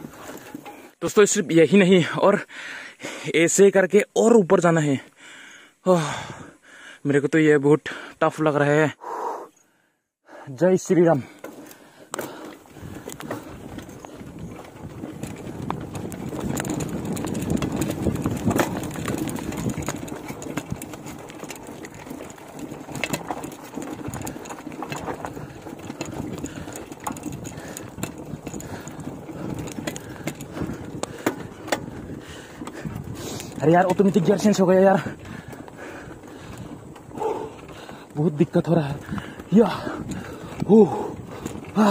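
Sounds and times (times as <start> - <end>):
bike clicking and rattling: 0.0 - 2.5, 10.6 - 41.9
bike tyres rolling on dirt: 0.0 - 8.9, 10.4 - 41.9.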